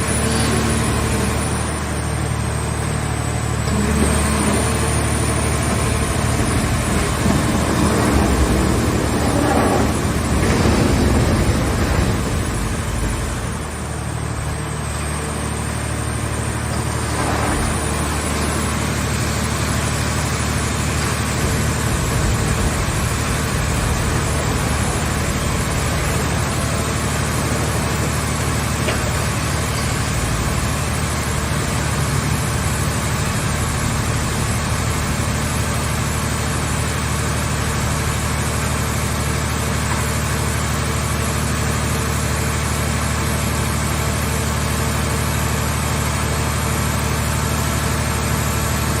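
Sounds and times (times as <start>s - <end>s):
baler engine running: 0.0s - 49.0s.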